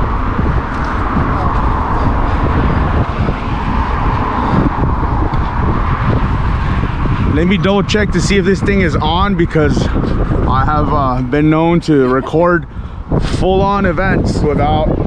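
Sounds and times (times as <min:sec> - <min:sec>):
car traffic: 0:00.0 - 0:15.0
wind on microphone: 0:00.0 - 0:15.0.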